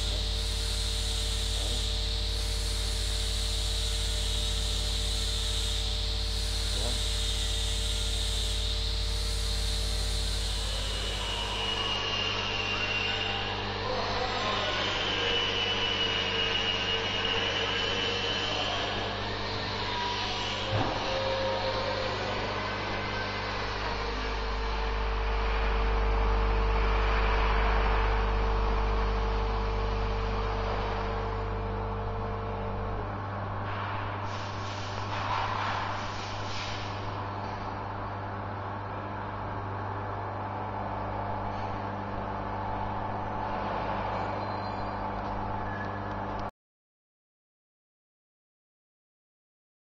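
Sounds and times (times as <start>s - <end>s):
vibratory feeder electric hum: 0.0s - 46.5s.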